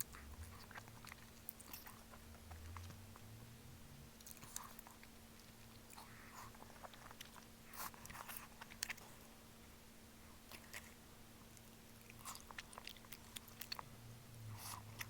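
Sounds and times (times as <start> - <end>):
chewing and biting: 0.0 - 3.3, 4.1 - 9.3, 10.4 - 13.9, 14.5 - 15.0
faint steady hum: 0.0 - 15.0.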